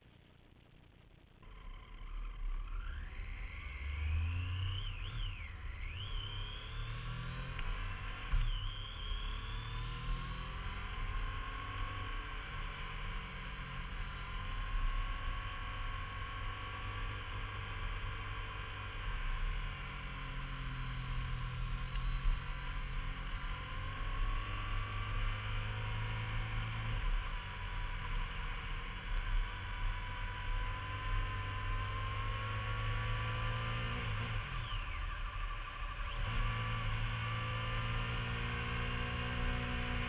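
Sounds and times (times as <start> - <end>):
motorcycle engine revving: 1.4 - 40.0.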